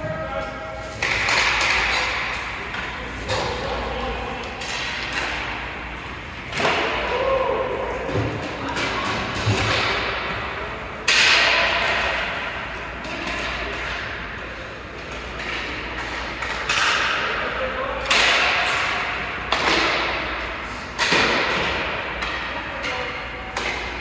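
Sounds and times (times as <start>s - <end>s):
general noise of hockey play: 0.0s - 24.0s.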